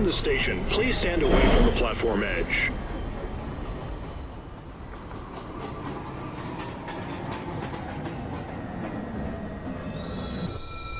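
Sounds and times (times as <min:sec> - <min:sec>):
subway train rumbling: 0:00.0 - 0:10.9.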